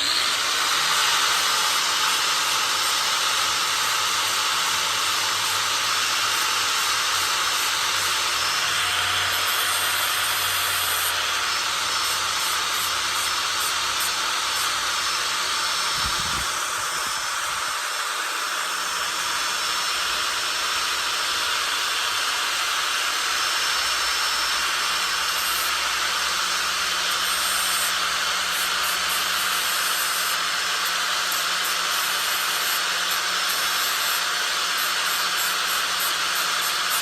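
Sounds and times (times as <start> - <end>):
electric grinder grinding metal: 0.0 - 37.0.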